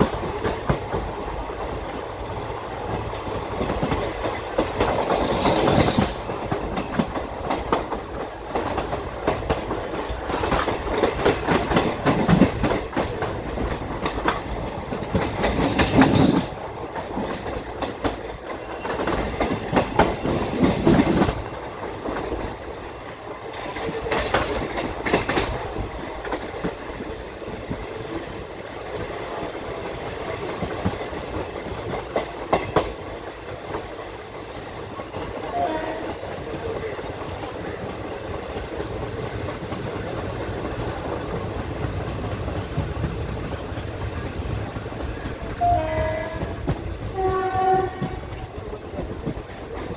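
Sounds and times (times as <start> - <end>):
wheels clickety-clack over joints: 0.0 - 34.2, 34.9 - 49.9
train wheels rumbling on rail: 0.0 - 49.9.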